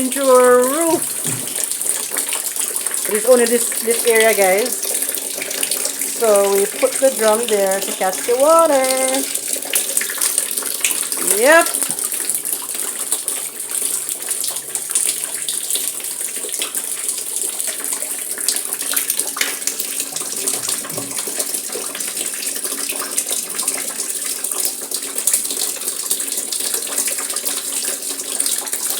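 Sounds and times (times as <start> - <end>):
water pouring into water: 0.0 - 28.9.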